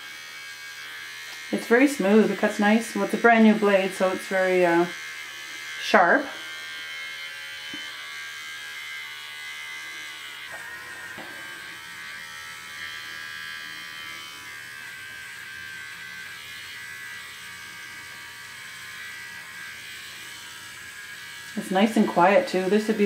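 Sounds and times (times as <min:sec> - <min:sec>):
cordless trimmer buzzing: 0:00.0 - 0:23.0.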